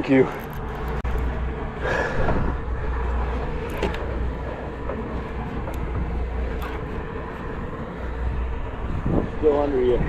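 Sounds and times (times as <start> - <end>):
boat engine droning: 0.0 - 10.0
wind and water noise: 0.0 - 10.0.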